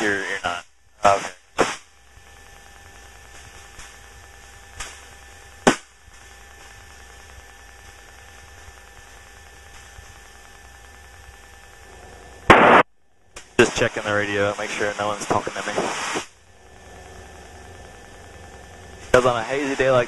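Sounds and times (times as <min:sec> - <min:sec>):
aircraft cabin drone: 0:00.0 - 0:20.0.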